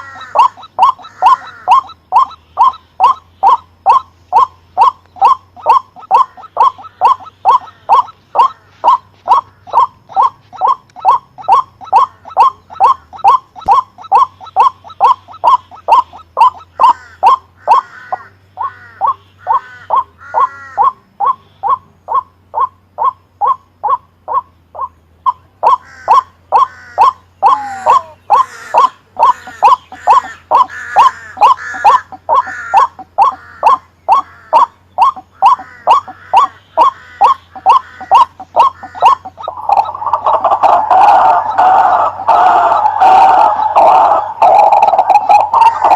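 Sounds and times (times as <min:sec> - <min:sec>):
bird calling repeated notes: 0:00.0 - 0:45.9.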